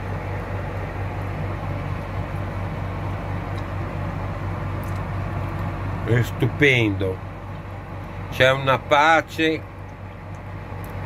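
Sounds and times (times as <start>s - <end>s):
constant wash of noise: 0.0s - 11.0s
low hum: 0.0s - 11.0s.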